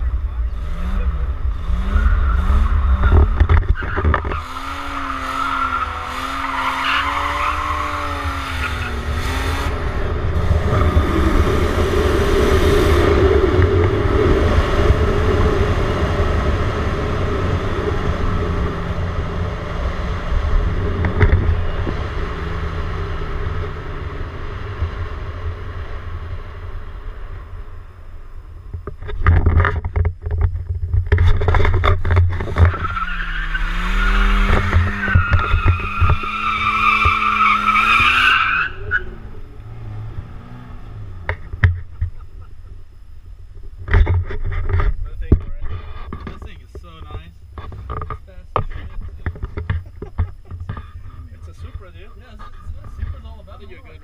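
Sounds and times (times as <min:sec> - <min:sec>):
heavy low rumble: 0:00.0 - 0:04.4, 0:08.9 - 0:32.7, 0:38.8 - 0:54.0
car engine revving: 0:00.0 - 0:29.7, 0:30.3 - 0:54.0
tyres skidding: 0:00.0 - 0:54.0.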